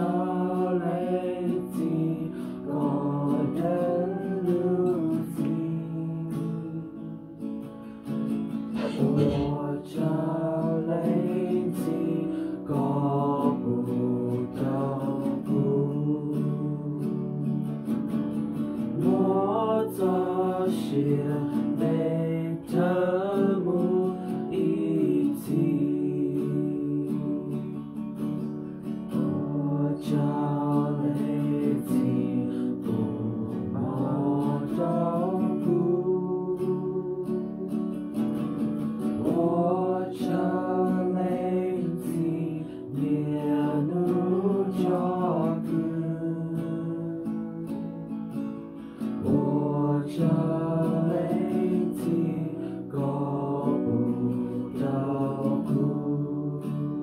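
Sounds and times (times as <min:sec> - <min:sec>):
group of people singing: 0:00.0 - 0:07.2, 0:08.6 - 0:17.7, 0:18.6 - 0:28.0, 0:29.1 - 0:57.0
acoustic guitar strumming: 0:00.0 - 0:57.0.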